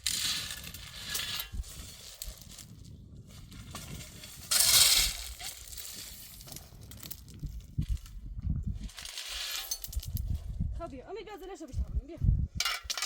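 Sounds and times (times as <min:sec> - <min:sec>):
gravel crunching and scraping: 0:00.0 - 0:11.1.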